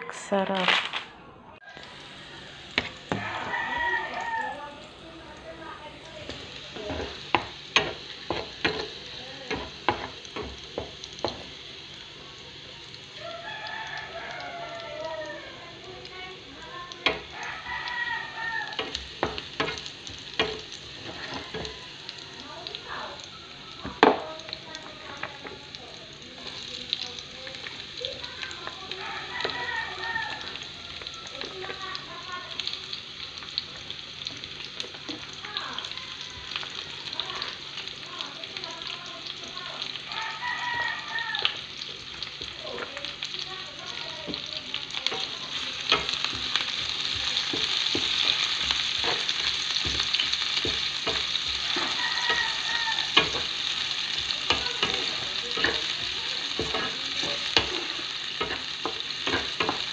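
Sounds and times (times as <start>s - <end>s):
onions sizzling in a frying pan: 0.0s - 59.9s.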